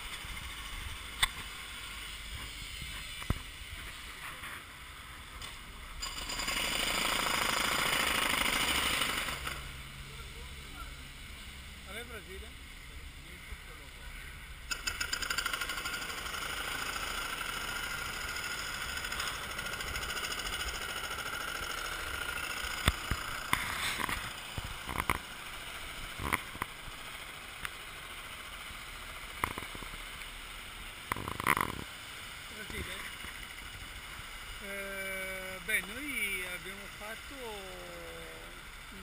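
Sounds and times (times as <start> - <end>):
vehicle engine running: 7.2 - 39.0.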